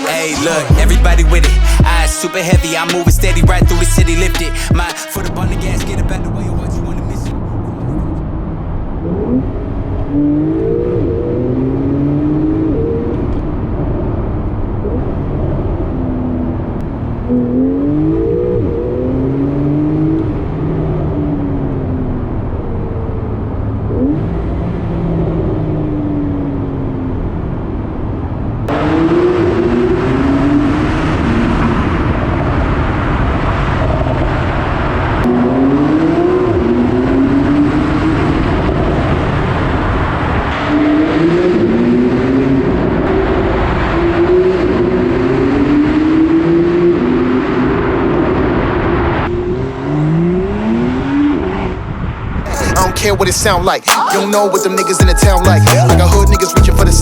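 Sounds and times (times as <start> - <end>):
car engine accelerating through gears: 5.3 - 52.5.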